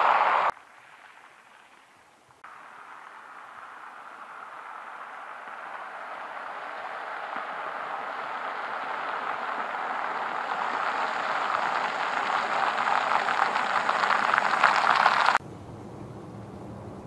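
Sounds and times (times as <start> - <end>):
tyre hiss on wet asphalt: 0.0 - 15.4.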